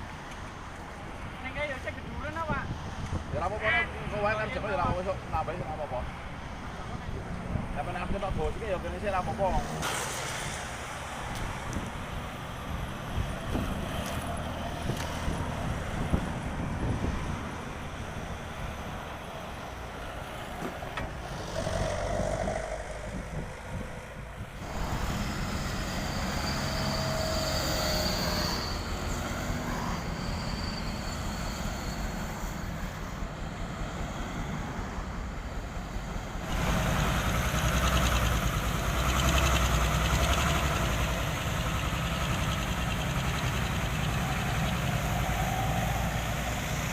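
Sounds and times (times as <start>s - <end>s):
heavy machinery diesel engines: 0.0s - 46.9s.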